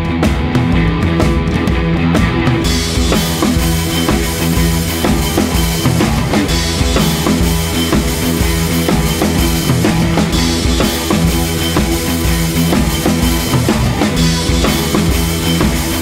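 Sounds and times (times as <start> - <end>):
rock music with drum beat: 0.0 - 16.0.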